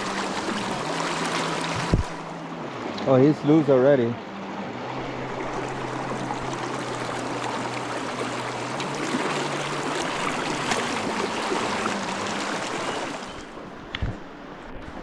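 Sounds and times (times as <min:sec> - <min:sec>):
river water rushing over rocks: 0:00.0 - 0:15.0.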